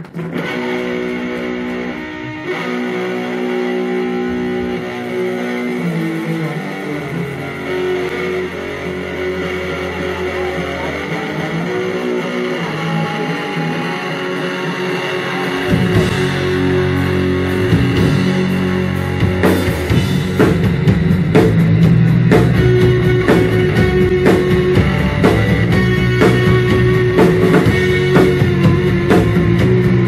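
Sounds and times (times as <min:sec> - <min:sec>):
bass guitar: 0:00.0 - 0:30.0
electric guitars sustained chords: 0:00.0 - 0:30.0.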